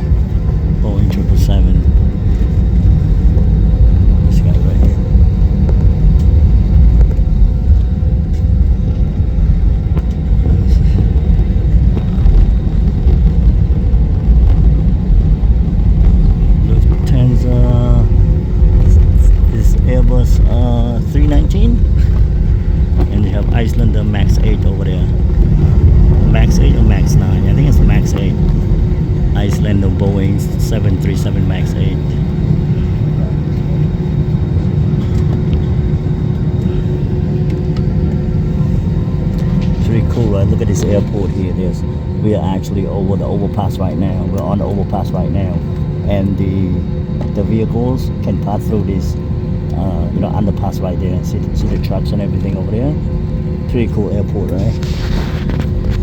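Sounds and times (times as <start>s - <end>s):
faint steady hum: 0.0s - 56.0s
low rumble inside aircraft cabin: 0.0s - 56.0s.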